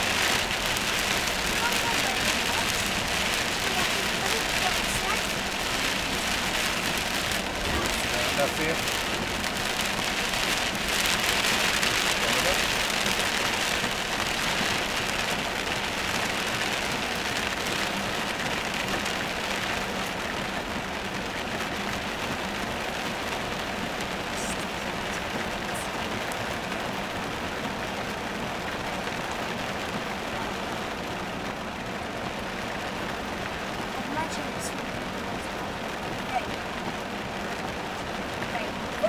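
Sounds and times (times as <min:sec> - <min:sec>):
heavy rain on a car: 0:00.0 - 0:39.0.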